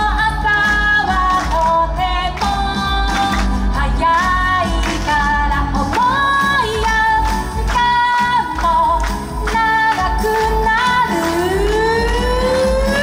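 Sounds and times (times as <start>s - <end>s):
pop backing track with bass: 0.0s - 13.0s
woman singing: 0.0s - 13.0s.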